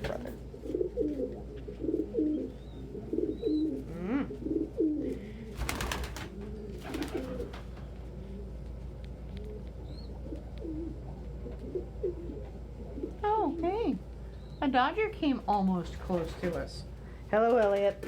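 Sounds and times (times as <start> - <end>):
pigeons cooing: 0.0 - 14.6.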